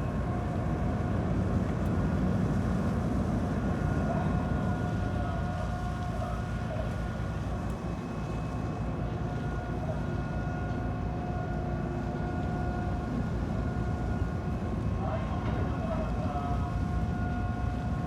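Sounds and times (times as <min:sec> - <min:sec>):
ship engine low rumble: 0:00.0 - 0:18.0.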